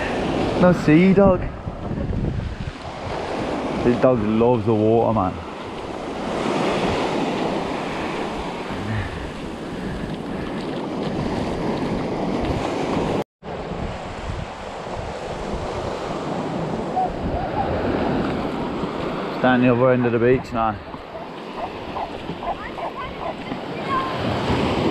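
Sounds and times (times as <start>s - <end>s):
small waves on sandy beach: 0.0s - 24.9s
wind buffeting microphone: 0.0s - 24.9s.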